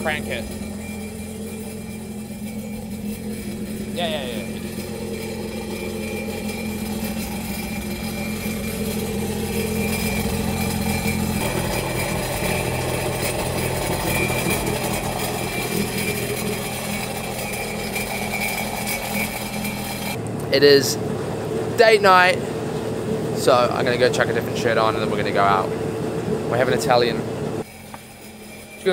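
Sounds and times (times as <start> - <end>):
jet ski engine idling: 0.0 - 28.9.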